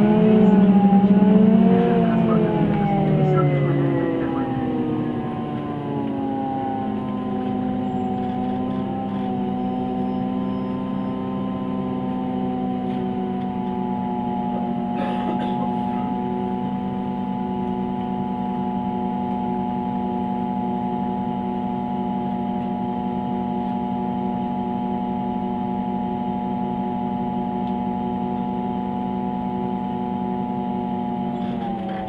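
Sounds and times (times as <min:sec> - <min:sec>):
bus engine humming drone: 0:00.0 - 0:32.0.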